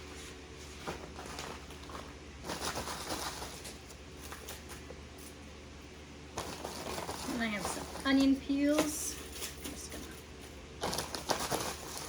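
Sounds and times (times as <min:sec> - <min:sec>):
rustling of vegetable peels: 0:00.0 - 0:12.0.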